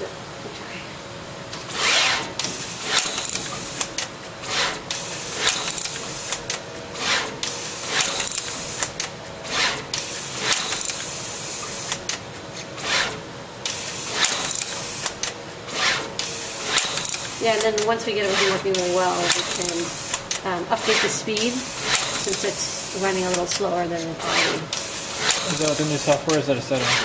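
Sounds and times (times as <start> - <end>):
machine head whooshing and whirring: 1.5 - 27.0
machine clicks: 1.6 - 27.0.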